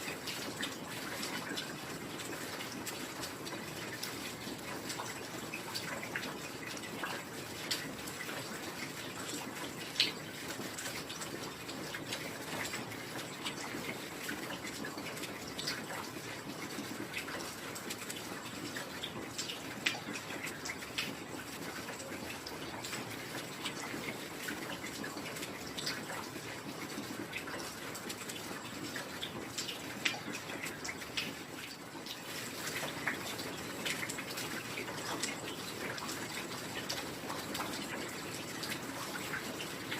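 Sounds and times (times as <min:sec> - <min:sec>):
sharp drops and drips: 0:00.0 - 0:39.9.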